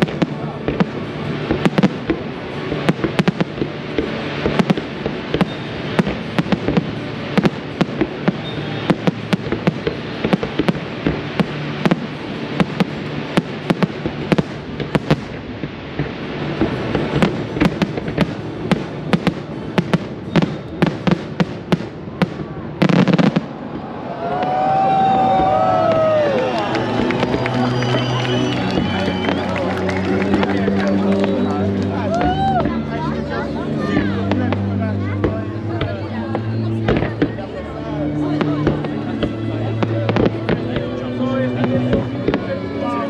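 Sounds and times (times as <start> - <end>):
firework bangs: 0.0 - 41.0
firework rumble and crackle: 0.0 - 43.0.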